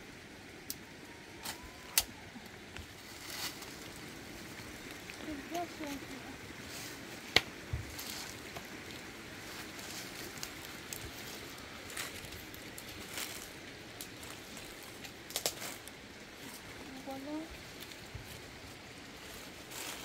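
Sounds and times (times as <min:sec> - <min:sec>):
faint hiss: 0:00.0 - 0:20.0
dry leaves and twigs crackling: 0:00.6 - 0:20.0.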